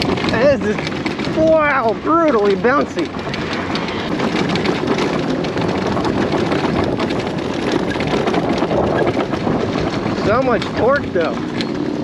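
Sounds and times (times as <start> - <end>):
bike rattling and knocking: 0.0 - 12.0
wind and tyre noise: 0.0 - 12.0.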